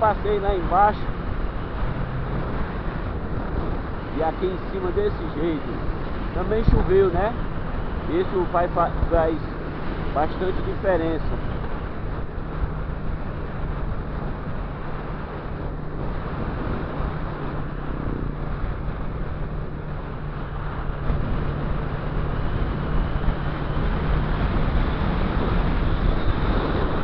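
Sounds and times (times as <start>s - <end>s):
motorcycle engine humming: 0.0s - 27.0s
wind and road noise: 0.0s - 27.0s.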